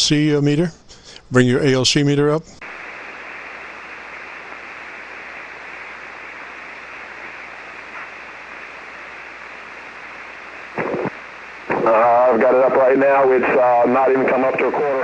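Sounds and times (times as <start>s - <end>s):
radio receiver static hiss: 1.6s - 15.0s.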